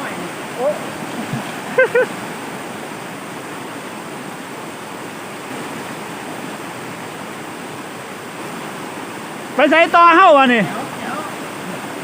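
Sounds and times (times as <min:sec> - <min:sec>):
water rushing over rapids: 0:00.0 - 0:12.0.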